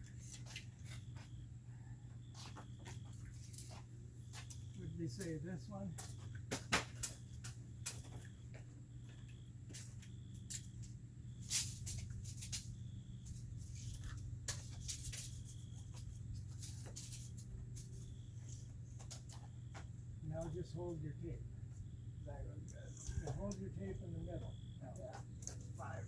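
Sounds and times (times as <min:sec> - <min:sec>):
low steady hum: 0:03.0 - 0:26.0.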